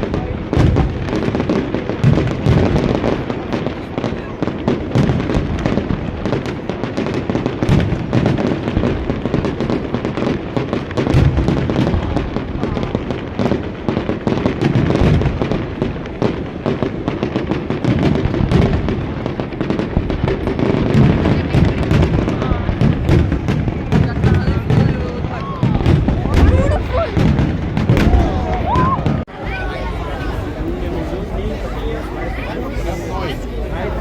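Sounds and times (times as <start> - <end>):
deep fireworks booms: 0.0 - 34.0
fireworks crackling and popping: 0.0 - 34.0.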